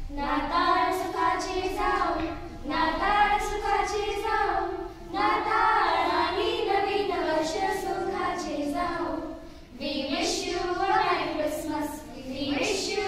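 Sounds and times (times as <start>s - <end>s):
girls singing slow song: 0.0s - 13.0s.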